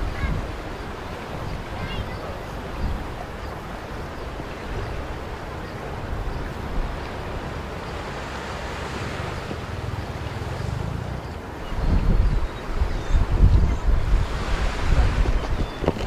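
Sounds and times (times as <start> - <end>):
surf washing on shore: 0.0 - 16.0
wind buffeting microphone: 0.0 - 16.0.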